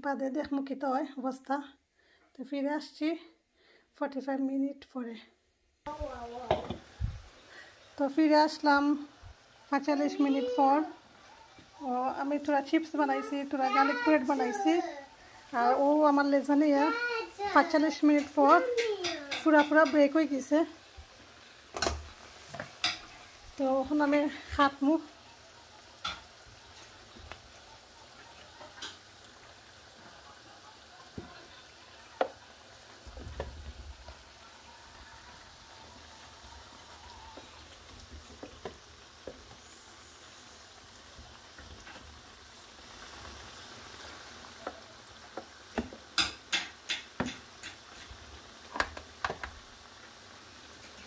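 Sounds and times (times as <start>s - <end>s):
chips sizzling in oil: 5.9s - 51.0s.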